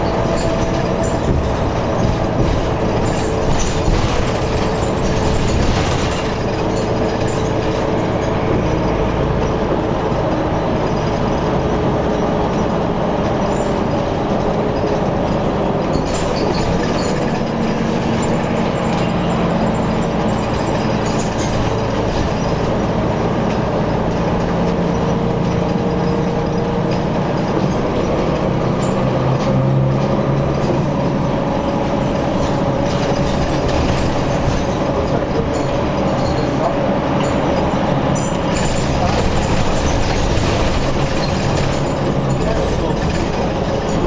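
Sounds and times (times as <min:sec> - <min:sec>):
tyre and road rumble: 0:00.0 - 0:44.0
vehicle engines running: 0:00.0 - 0:44.0.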